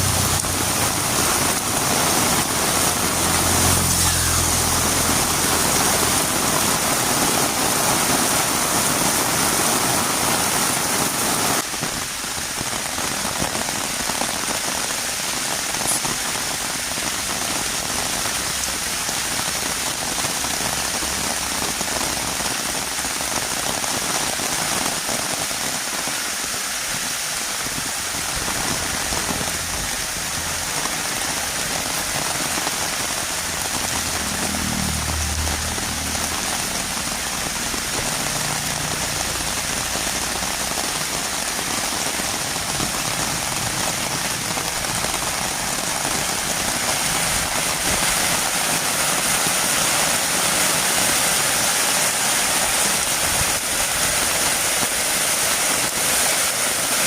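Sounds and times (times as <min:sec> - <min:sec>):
heavy rain on a road: 0:00.0 - 0:57.0.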